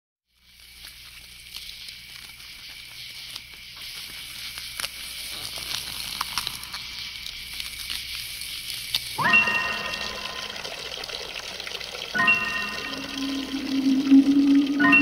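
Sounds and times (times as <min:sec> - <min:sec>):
rain hissing: 0:00.4 - 0:15.0.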